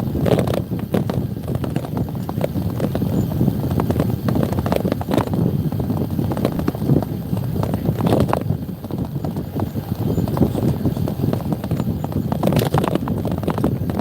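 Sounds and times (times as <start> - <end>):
motorcycle engine riding: 0.0 - 14.0.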